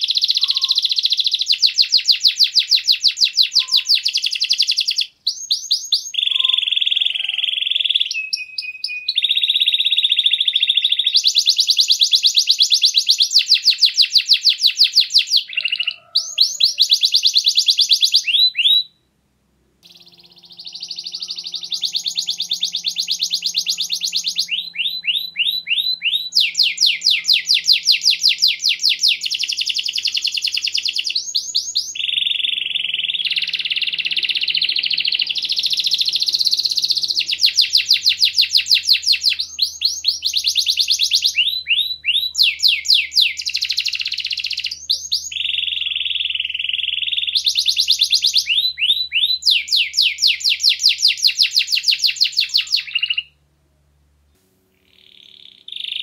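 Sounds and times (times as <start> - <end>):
canary singing trills: 0.0 - 19.1, 19.8 - 53.4, 54.7 - 56.0.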